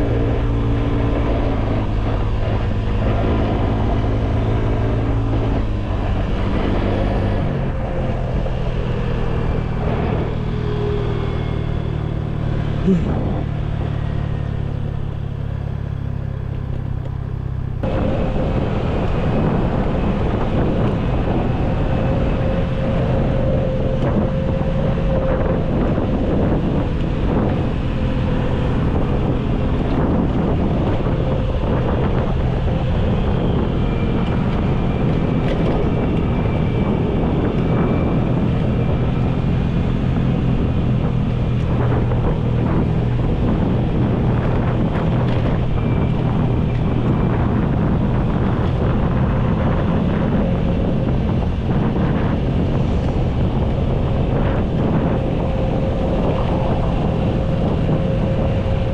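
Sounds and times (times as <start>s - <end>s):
engine running: 0.0s - 58.9s
wind buffeting microphone: 0.0s - 58.9s.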